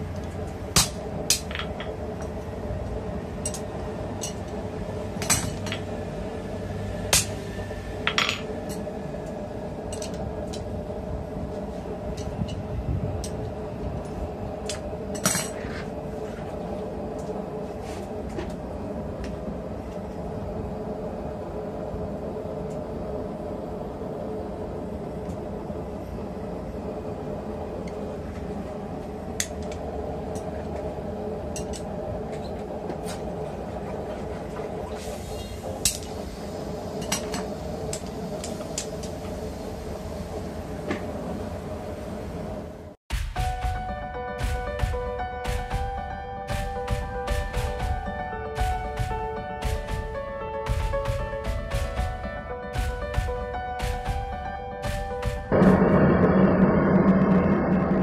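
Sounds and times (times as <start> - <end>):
machine hum: 0.0 - 34.9, 43.6 - 58.0.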